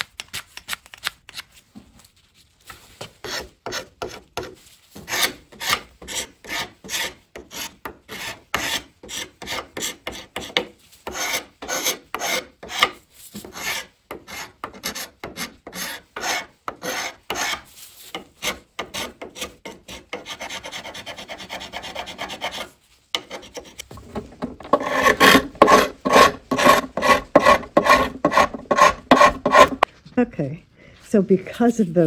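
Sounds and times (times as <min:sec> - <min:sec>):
hand sanding wood: 0:03.0 - 0:23.9, 0:24.6 - 0:29.9.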